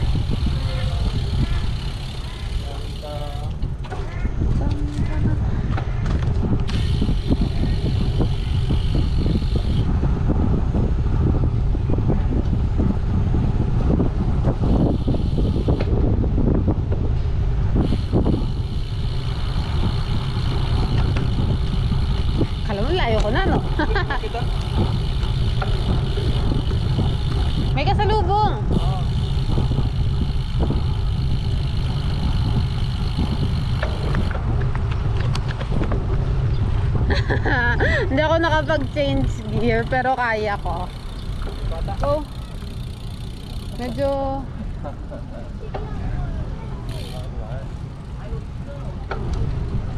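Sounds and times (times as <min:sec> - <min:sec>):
bicycle tyre road rumble: 0:00.0 - 0:49.9
wind buffeting microphone: 0:00.0 - 0:49.9.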